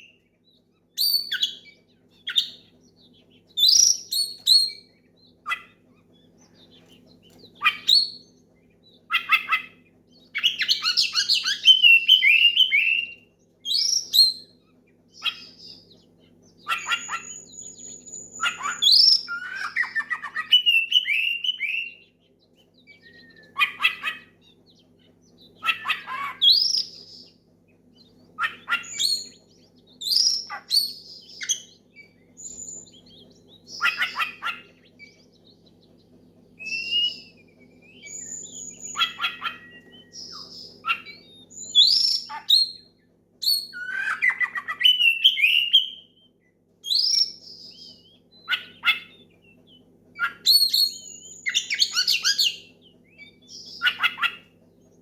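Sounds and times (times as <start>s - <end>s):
bird singing whistles and chirps: 0.0s - 54.4s
faint low hum: 0.0s - 55.0s.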